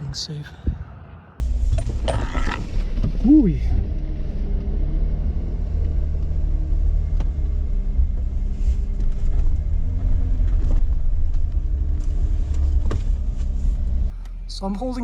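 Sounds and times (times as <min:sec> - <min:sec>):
engine running at low revs: 0:01.4 - 0:14.5.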